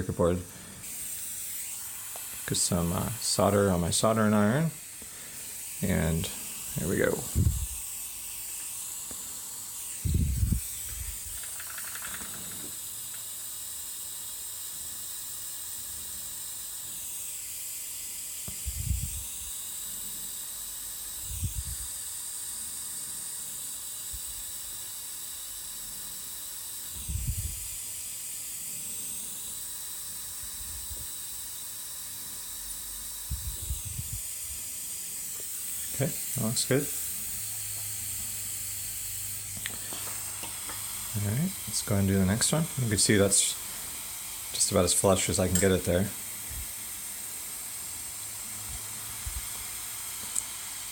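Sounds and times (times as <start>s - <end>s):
steady high hiss: 0.0s - 50.9s.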